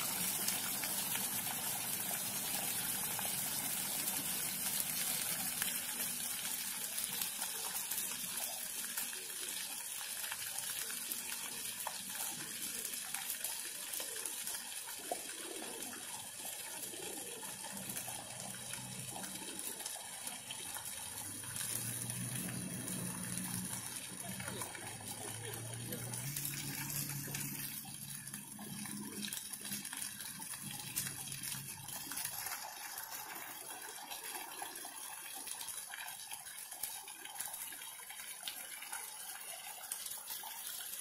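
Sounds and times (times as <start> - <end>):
fountain water splashing on paving: 0.0 - 41.0.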